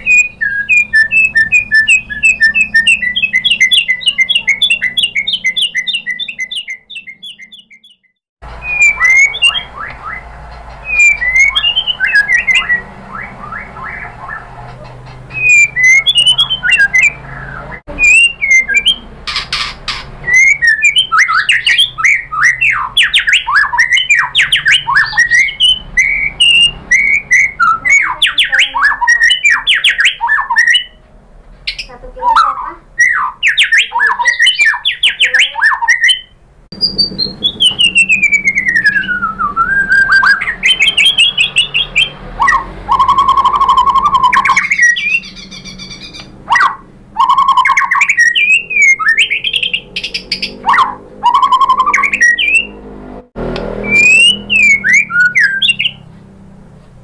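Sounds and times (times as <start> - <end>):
bird singing trilled phrases: 0.0 - 31.0, 31.7 - 52.8, 53.8 - 56.1
bird whistling: 0.0 - 31.0, 31.7 - 52.8, 53.8 - 56.0.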